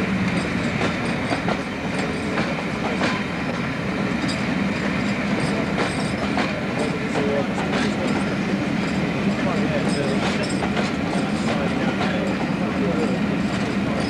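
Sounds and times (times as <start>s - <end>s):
train rumble: 0.0s - 14.0s
train wheels clicking over rail joints: 0.0s - 14.0s.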